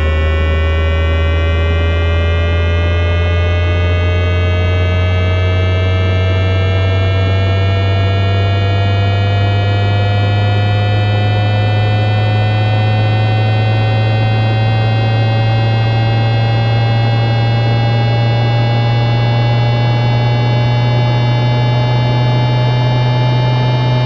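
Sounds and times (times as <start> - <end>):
rising multi-tone whine: 0.0 - 24.0.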